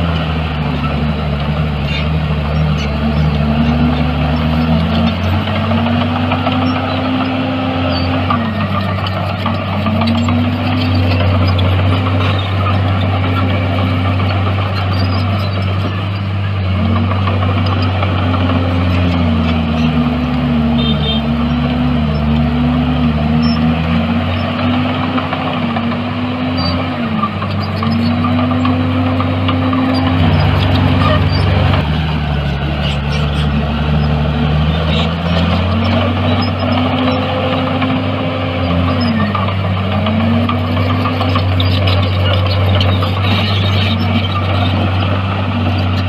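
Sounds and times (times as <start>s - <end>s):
heavy diesel engines under load: 0.0s - 46.0s
lower engine tone: 0.0s - 46.0s.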